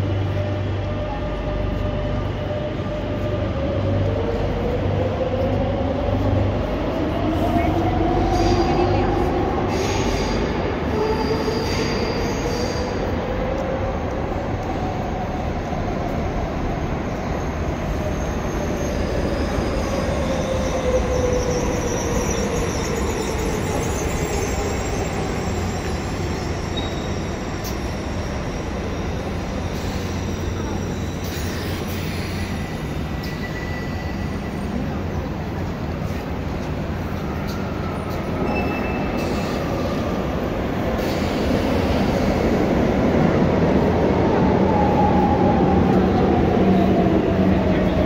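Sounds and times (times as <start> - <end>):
train braking: 7.2 - 13.9, 14.6 - 48.0.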